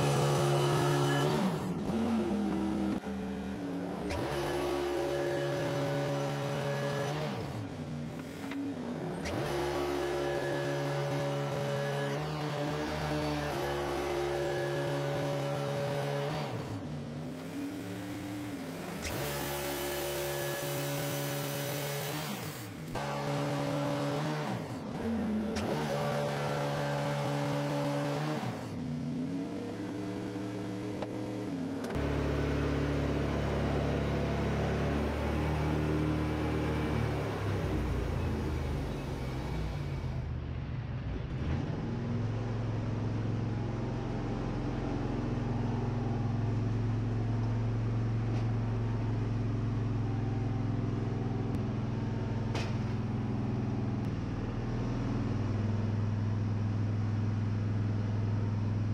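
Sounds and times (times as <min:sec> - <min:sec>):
sawmill machinery drone: 0:00.0 - 0:58.9.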